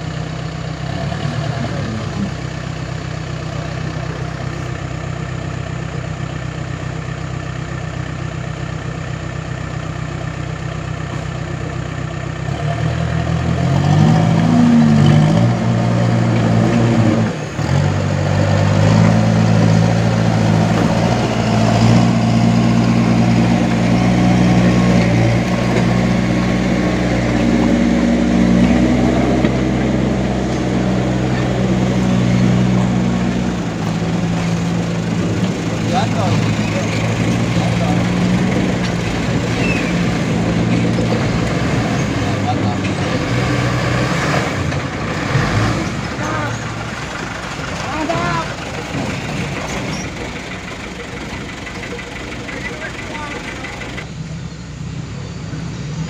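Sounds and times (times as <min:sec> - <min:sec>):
diesel engine idling and revving: 0:00.0 - 0:56.0.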